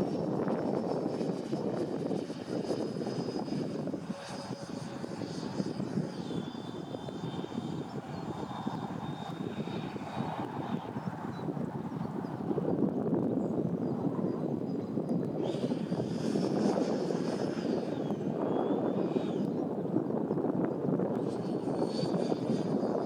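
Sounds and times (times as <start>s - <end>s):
high electric fan whine: 0.0s - 23.0s.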